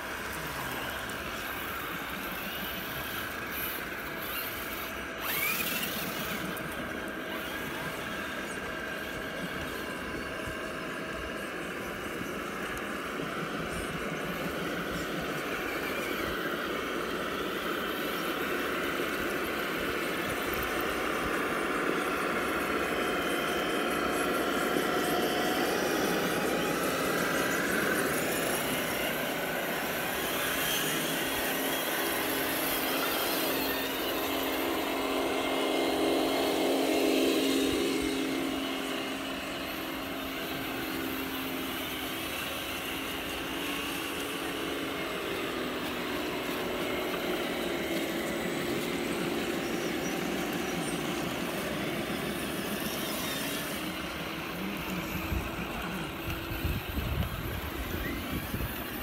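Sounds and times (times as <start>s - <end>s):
rc truck motors whining: 0.0s - 59.0s.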